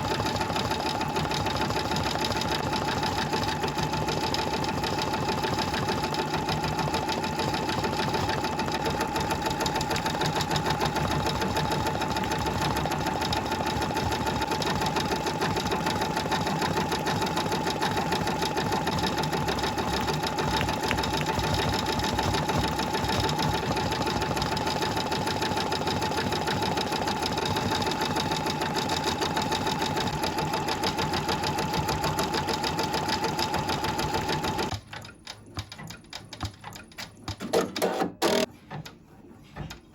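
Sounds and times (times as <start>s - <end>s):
sewing machine stitching: 0.0s - 39.0s.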